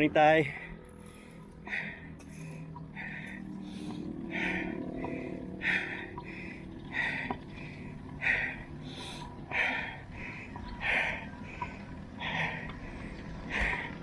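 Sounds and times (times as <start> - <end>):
person panting: 0.4 - 14.0.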